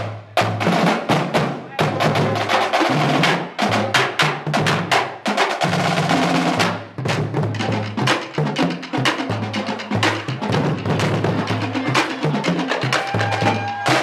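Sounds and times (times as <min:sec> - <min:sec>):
pitched bass drums: 0:00.0 - 0:14.0.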